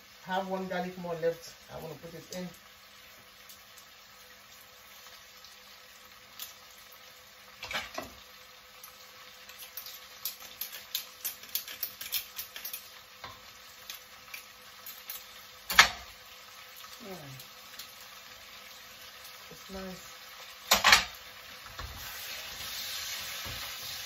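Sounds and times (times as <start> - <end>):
carrots sizzling in a wok: 0.0 - 24.0.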